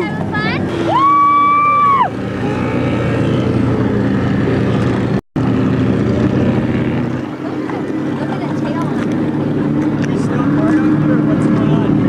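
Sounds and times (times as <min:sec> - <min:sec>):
powerboat engines running: 0:00.0 - 0:12.0.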